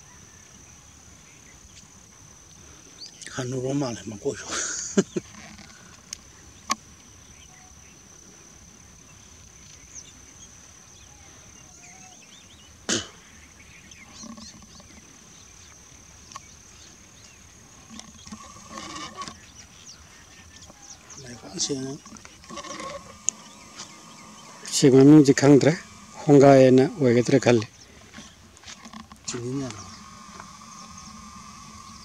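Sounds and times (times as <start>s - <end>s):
steady high-pitched whine: 0.0s - 32.0s.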